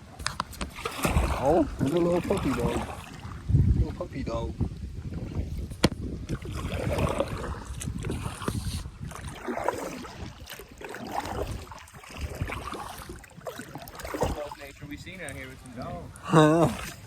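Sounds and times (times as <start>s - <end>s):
paddle splashing water: 0.0s - 17.0s.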